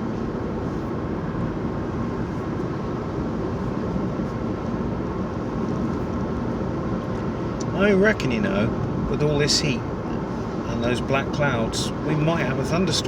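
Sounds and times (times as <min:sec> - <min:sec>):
air-conditioning blowing: 0:00.0 - 0:13.0
car road and engine noise: 0:00.0 - 0:13.0.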